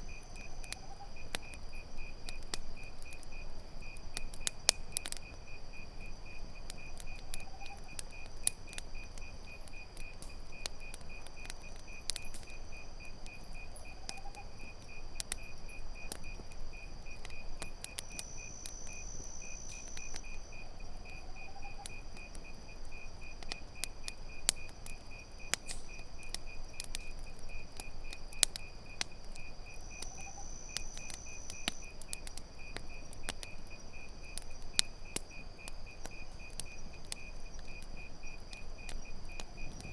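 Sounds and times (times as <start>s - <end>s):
campfire crackling and popping: 0.0s - 39.9s
crickets chirping: 0.0s - 39.9s
high insect trill: 0.0s - 39.9s.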